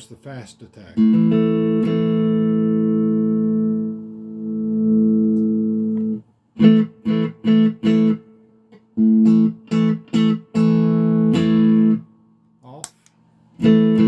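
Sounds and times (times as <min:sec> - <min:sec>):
electric guitar chord stabs: 0:01.0 - 0:12.0, 0:13.6 - 0:14.0
electric guitar chord ringing: 0:01.0 - 0:12.1, 0:13.6 - 0:14.0.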